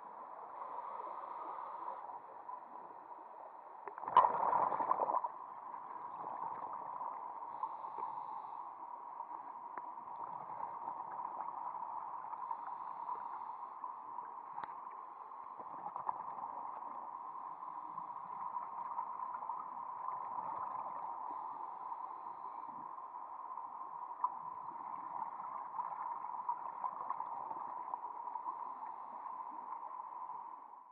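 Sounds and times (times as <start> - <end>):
muffled underwater hiss: 0.0 - 30.7
faint clicks and crackles: 0.3 - 30.6.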